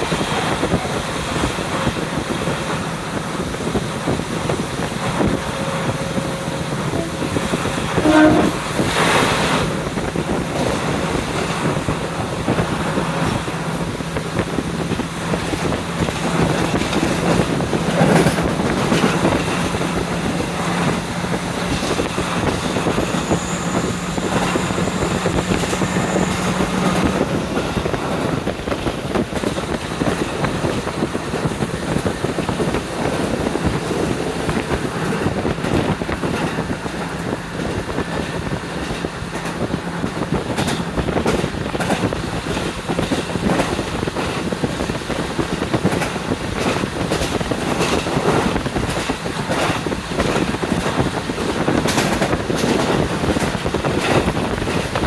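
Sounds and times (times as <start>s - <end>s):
diesel engine hum: 0.0s - 55.0s
train wheels knocking on rails: 0.0s - 55.0s
wind rushing through train window: 0.0s - 55.0s.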